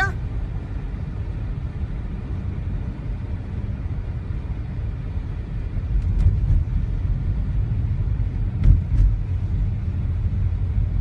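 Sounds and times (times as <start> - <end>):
car driving rumble inside cabin: 0.0 - 11.0.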